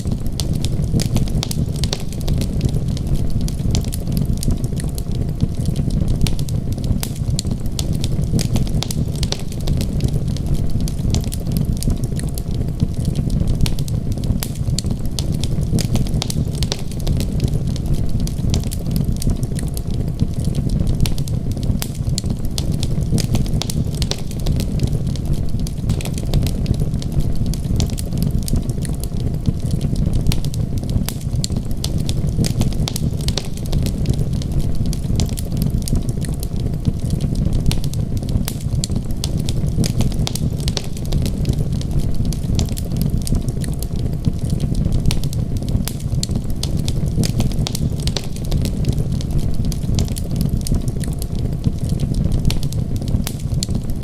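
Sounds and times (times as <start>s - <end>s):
steady low rumble: 0.0s - 54.0s
wood fire crackling and popping: 0.0s - 54.0s.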